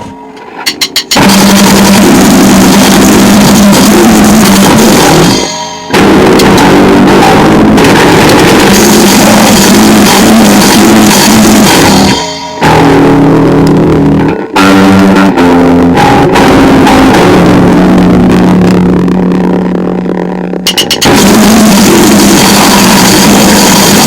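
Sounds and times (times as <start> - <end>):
band playing noisegrind: 0.0 - 24.0
distorted guitar chord ringing: 0.0 - 24.0.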